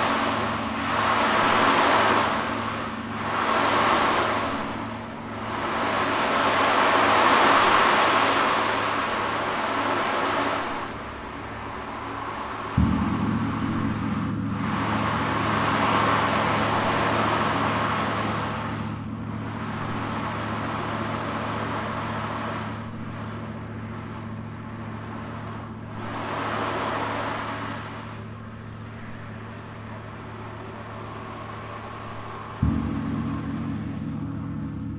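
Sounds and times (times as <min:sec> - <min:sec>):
gong ringing: 0:00.0 - 0:34.9
ocean drum rolling beads: 0:00.0 - 0:34.9.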